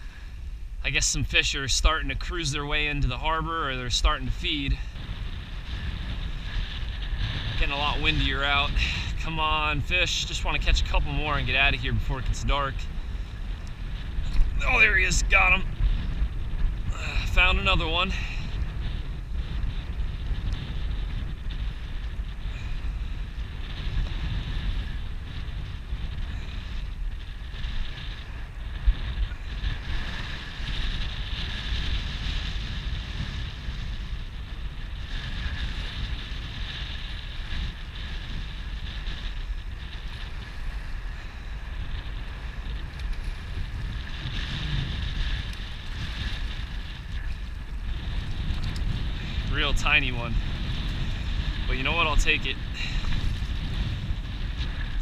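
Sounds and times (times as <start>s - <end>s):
wind buffeting microphone: 0.0s - 55.0s
choppy water lapping: 3.9s - 55.0s.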